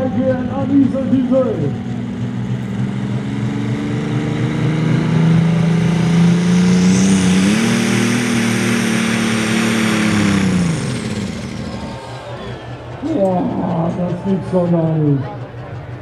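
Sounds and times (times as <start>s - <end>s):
high whine: 0.0s - 16.0s
tractor engine revving hard: 0.0s - 16.0s.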